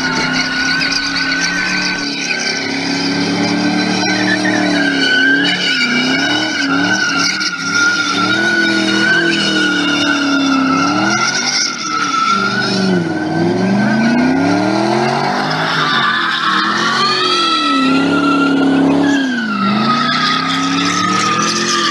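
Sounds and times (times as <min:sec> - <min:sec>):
car engine revving: 0:00.0 - 0:21.9
tyre squeal: 0:00.0 - 0:21.9.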